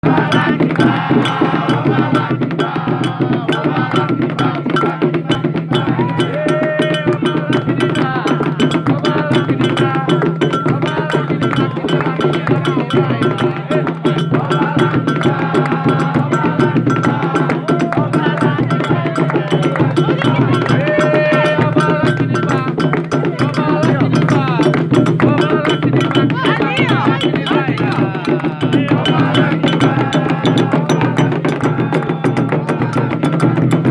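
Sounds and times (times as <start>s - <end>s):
bell-like percussion: 0.0s - 33.9s
hand drums: 0.0s - 33.9s
voices singing: 0.0s - 33.9s.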